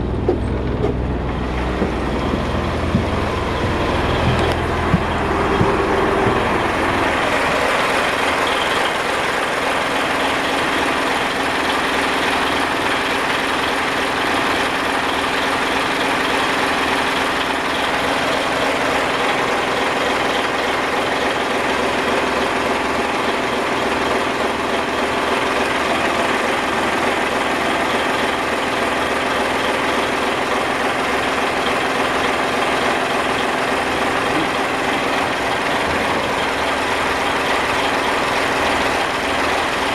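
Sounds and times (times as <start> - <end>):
marine diesel engine running: 0.0 - 39.9.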